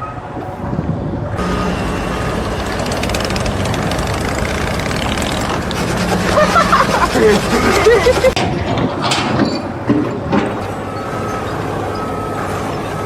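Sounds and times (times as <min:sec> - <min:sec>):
heavy engine running: 0:00.0 - 0:13.0
steady low hum: 0:00.0 - 0:13.0
mechanical clatter and rattle: 0:00.3 - 0:13.0.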